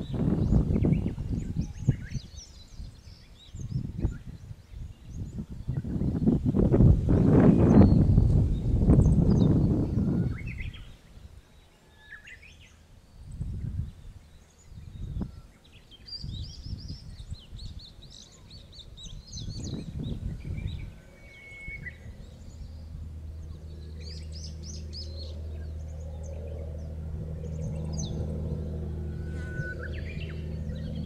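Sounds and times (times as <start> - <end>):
low engine hum: 0.0 - 11.0, 12.3 - 31.0
wind buffeting microphone: 0.0 - 11.6, 13.1 - 31.0
small birds chirping: 0.0 - 31.0.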